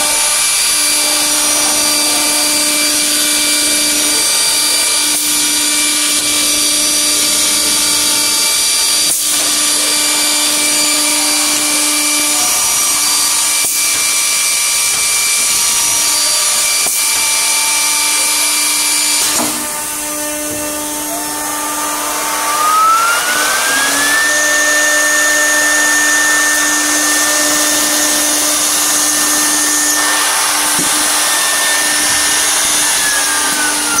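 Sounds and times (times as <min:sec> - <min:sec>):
machine whine with hiss: 0:00.0 - 0:34.0
motor whine: 0:00.0 - 0:34.0.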